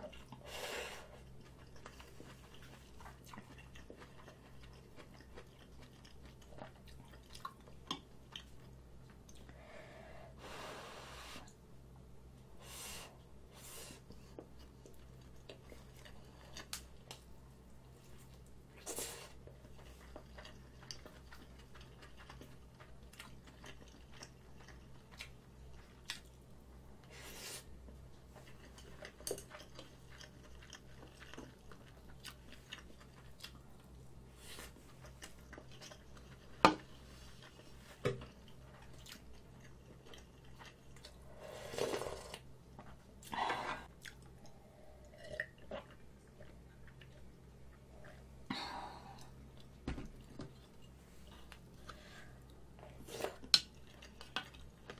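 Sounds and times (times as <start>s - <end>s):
quiet chewing: 0.0s - 9.6s, 14.0s - 27.2s, 27.8s - 54.9s.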